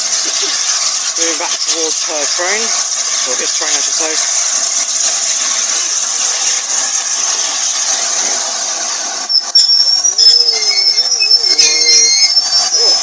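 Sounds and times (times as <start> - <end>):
high sharp squeal: 0.0 - 13.0
steam locomotive hissing: 0.0 - 13.0.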